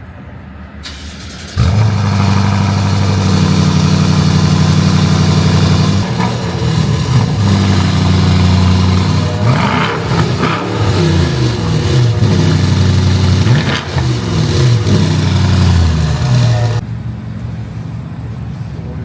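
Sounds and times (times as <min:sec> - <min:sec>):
car engine starting and idling: 0:00.8 - 0:17.7.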